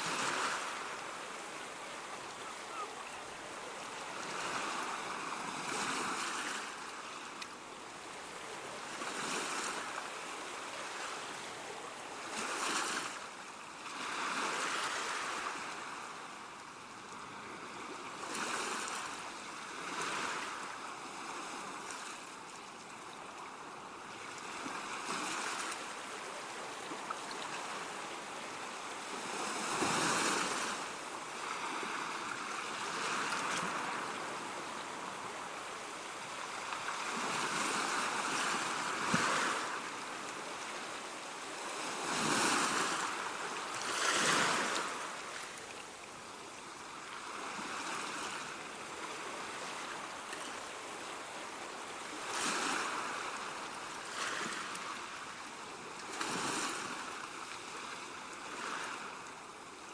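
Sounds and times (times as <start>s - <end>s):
waves breaking and washing in: 0.0s - 59.9s.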